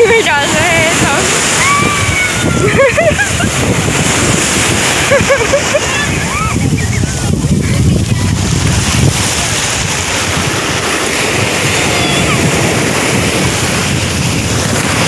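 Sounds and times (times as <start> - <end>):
surf washing on beach: 0.0 - 15.0
wind buffeting microphone: 0.0 - 15.0.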